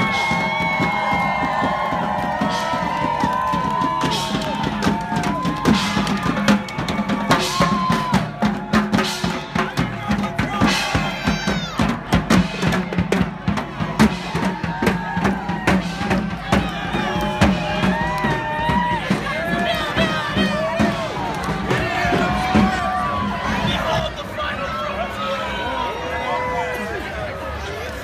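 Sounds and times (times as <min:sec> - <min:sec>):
marching drums playing: 0:00.0 - 0:23.0.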